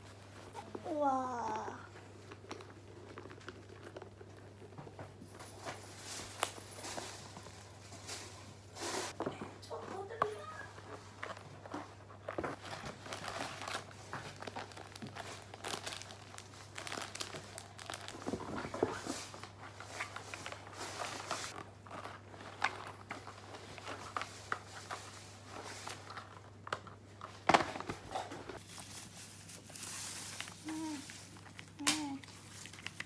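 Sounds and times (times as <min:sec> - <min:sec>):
packaging crinkling and rustling: 0:00.1 - 0:09.2, 0:10.0 - 0:33.0.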